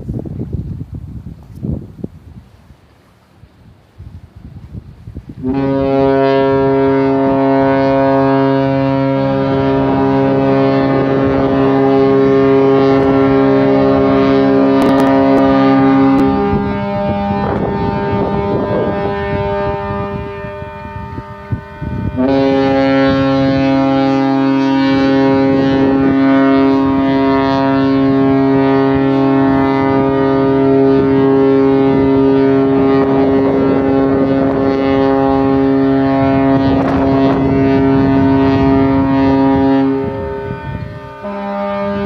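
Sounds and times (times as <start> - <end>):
ship horn blasts: 2.8 - 42.0.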